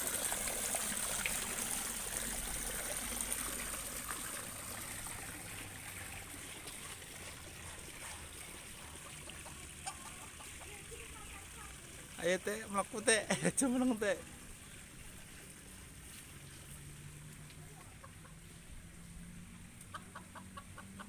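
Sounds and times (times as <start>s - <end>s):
running water: 0.0s - 18.1s.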